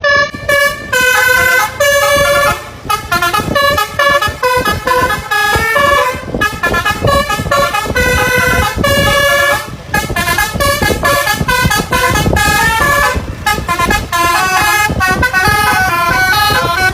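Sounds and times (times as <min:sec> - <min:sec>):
musical bus horn tune: 0:00.0 - 0:16.9
low rumble: 0:00.1 - 0:16.9.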